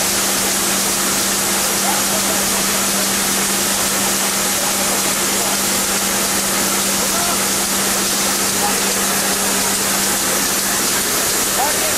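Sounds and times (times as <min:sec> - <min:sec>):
machinery hissing: 0:00.0 - 0:11.9.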